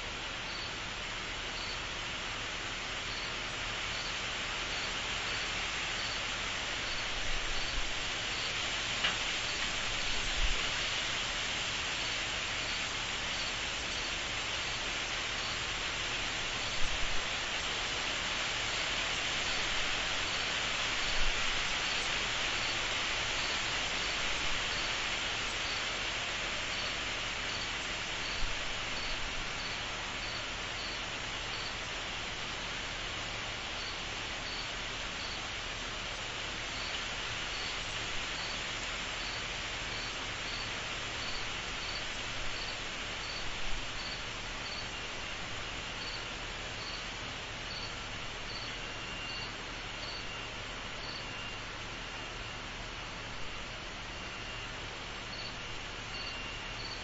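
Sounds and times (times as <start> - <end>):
insect chirping: 0.5 - 0.8, 1.5 - 1.9, 3.1 - 10.9, 11.9 - 15.7, 20.4 - 32.0, 33.7 - 35.5, 36.2 - 53.0, 53.7 - 57.0.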